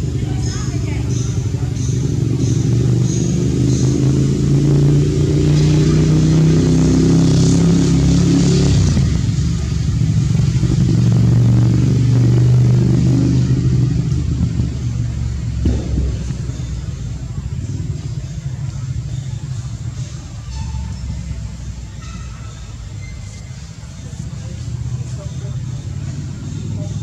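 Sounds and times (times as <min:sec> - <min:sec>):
motor vehicle engine running: 0:00.0 - 0:27.0.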